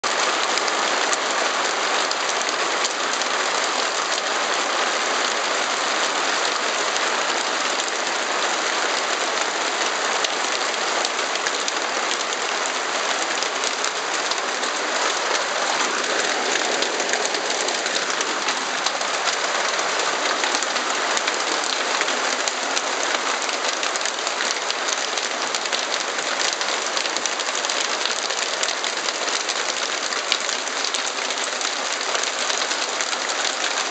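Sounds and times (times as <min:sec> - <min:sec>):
hail and rain pelting: 0:00.0 - 0:33.9.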